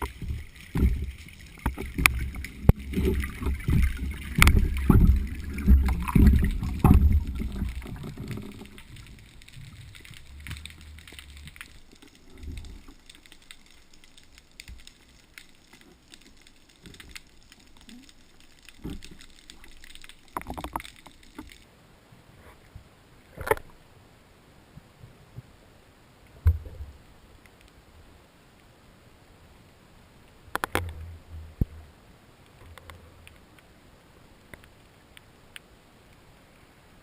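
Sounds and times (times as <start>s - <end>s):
light water noise: 0.0s - 37.0s.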